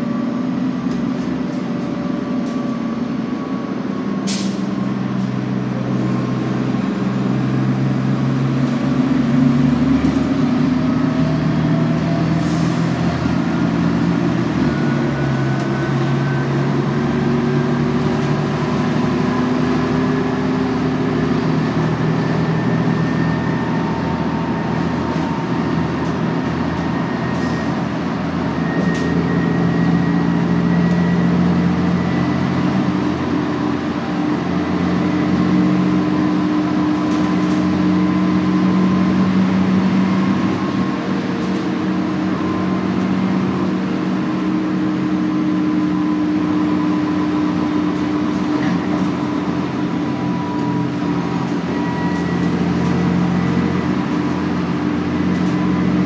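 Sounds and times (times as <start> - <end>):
bus engine droning: 0.0 - 56.0
road noise: 0.0 - 56.0.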